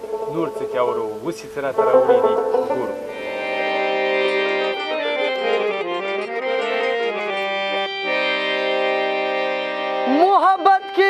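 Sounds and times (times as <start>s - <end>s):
harmonium playing a folk tune: 0.0s - 11.0s.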